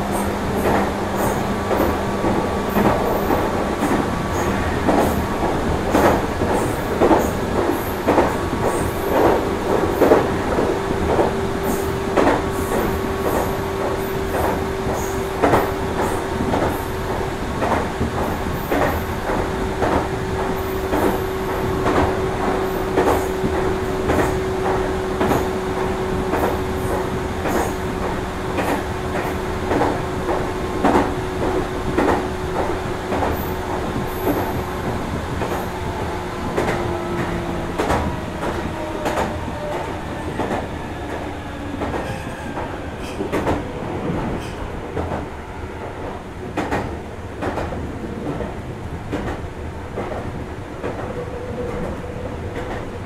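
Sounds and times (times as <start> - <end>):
electric train running hum: 0.0 - 53.0.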